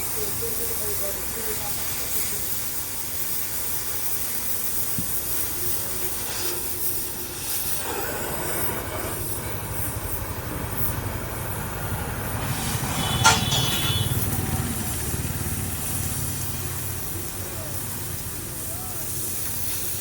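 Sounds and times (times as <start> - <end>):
cutting torch hissing: 0.0 - 20.0.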